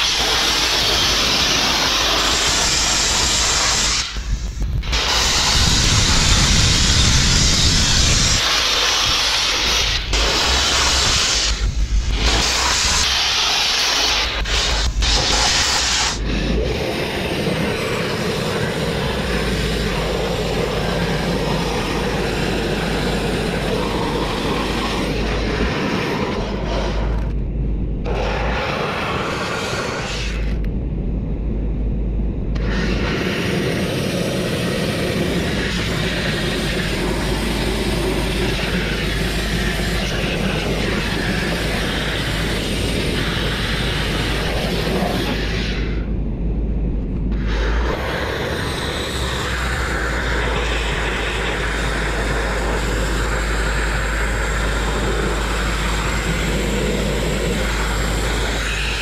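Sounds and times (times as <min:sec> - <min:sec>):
grit blasting nozzle rushing: 0:00.0 - 0:27.4, 0:28.0 - 0:30.6, 0:32.6 - 0:46.1, 0:47.3 - 0:59.0.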